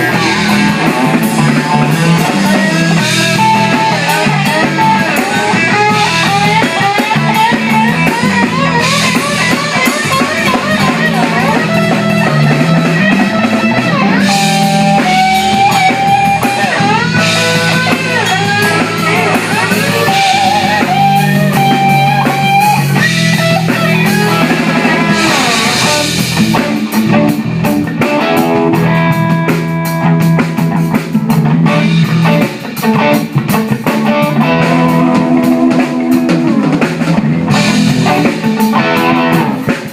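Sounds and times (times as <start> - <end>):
bass: 0.0 - 39.9
drum kit with cymbals: 0.0 - 39.9
electric guitar lead: 0.0 - 39.9.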